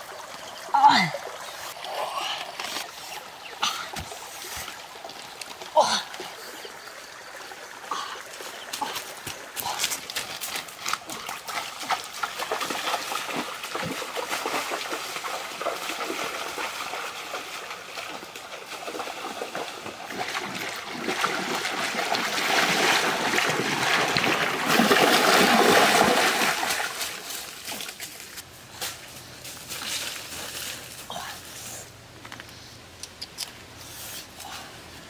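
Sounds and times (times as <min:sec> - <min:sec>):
stream water trickling and splashing: 0:00.0 - 0:32.1.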